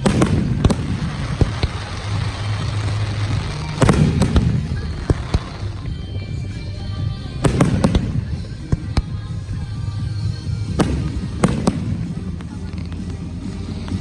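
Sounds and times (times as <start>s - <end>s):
continuous low rumble: 0.0s - 14.0s
fireworks bangs: 0.0s - 14.0s.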